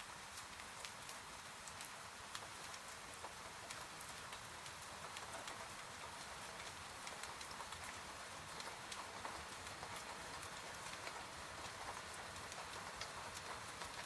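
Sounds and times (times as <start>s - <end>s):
rain pattering on window: 0.0s - 14.0s.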